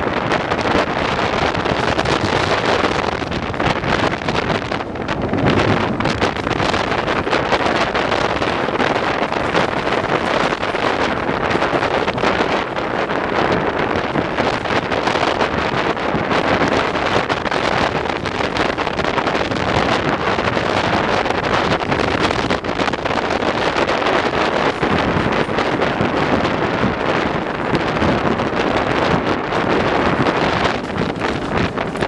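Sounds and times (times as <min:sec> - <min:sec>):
train running on track: 0:00.0 - 0:32.0
wind buffeting microphone: 0:00.0 - 0:32.0.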